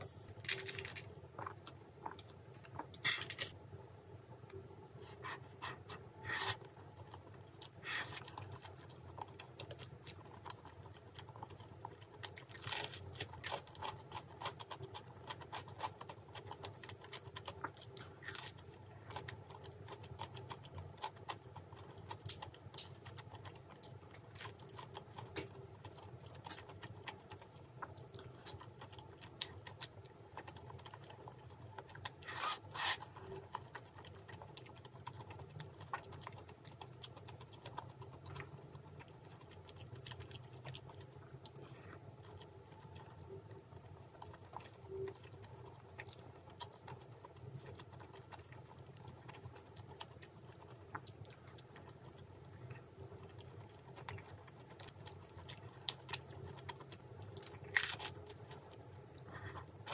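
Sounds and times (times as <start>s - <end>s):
low steady hum: 0.0s - 59.9s
wet chewing and smacking: 5.2s - 59.9s.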